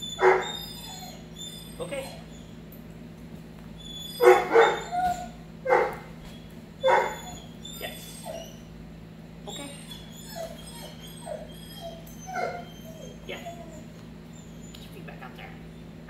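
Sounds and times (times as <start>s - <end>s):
puppy yipping: 0.0s - 2.6s, 3.8s - 8.7s, 9.5s - 14.9s
puppy whimpering: 0.0s - 2.8s, 3.8s - 8.7s, 9.4s - 16.0s.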